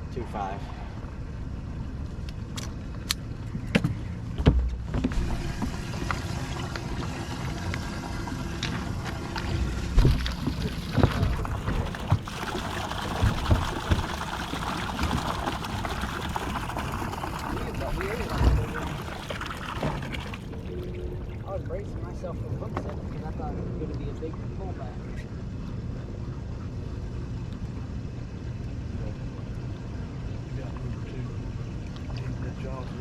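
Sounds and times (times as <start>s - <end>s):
low rumble of wind or water: 0.0s - 33.0s.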